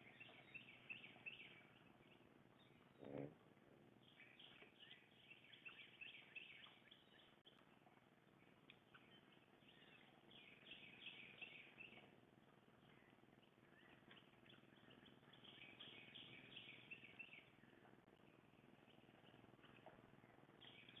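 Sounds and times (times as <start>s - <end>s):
songbird chirping: 0.0s - 21.0s.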